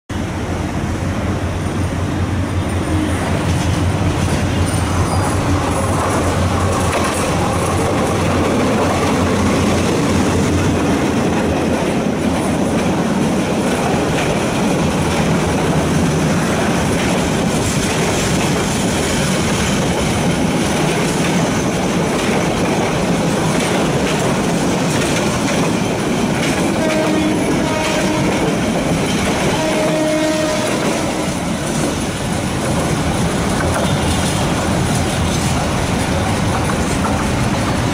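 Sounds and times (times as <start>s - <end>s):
train wheels clattering on rails: 1.8s - 37.9s.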